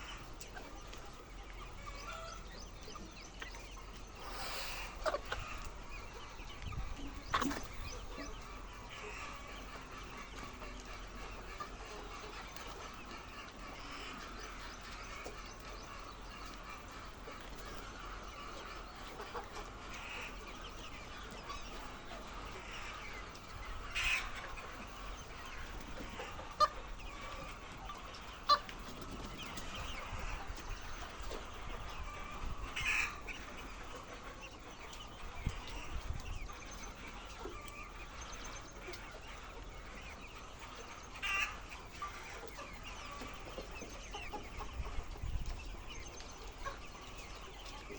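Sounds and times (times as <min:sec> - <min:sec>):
hens clucking: 0:00.0 - 0:47.9.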